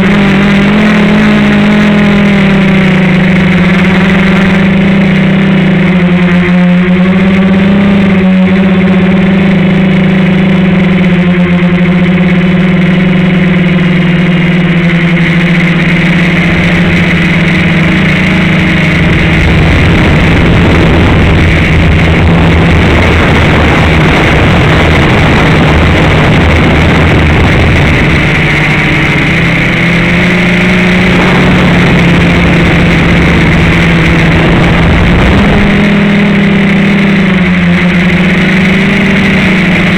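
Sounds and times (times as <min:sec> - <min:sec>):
drone motors and propellers: 0:00.0 - 0:39.9.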